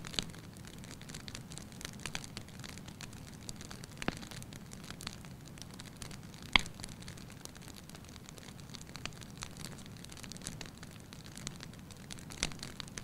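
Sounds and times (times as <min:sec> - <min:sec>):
fire crackles: 0:00.0 - 0:13.0
wood fire rumbling: 0:00.0 - 0:13.0.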